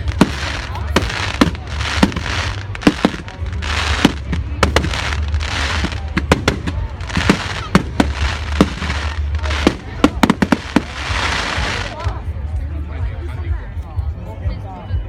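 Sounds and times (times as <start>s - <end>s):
fireworks bursting with sharp bangs: 0.0s - 12.2s
hissing rush of fireworks: 0.0s - 12.2s.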